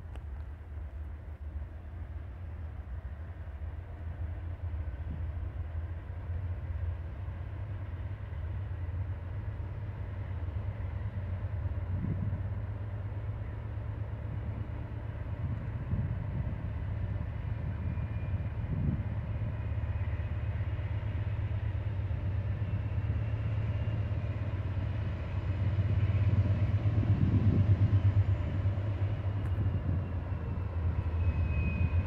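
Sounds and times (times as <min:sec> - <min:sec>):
distant diesel locomotive rumbling: 0:00.0 - 0:32.0.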